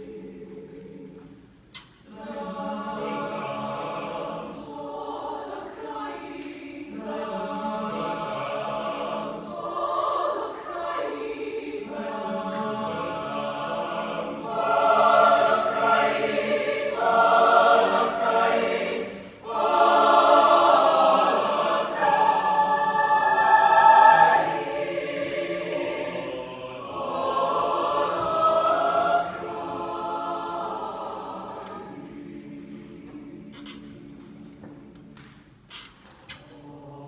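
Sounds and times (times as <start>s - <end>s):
choir singing: 0.0s - 35.5s, 36.2s - 37.0s.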